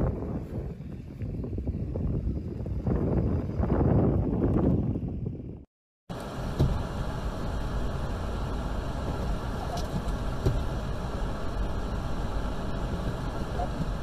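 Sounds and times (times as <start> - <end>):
car engine and tyres on snow: 0.0 - 14.0.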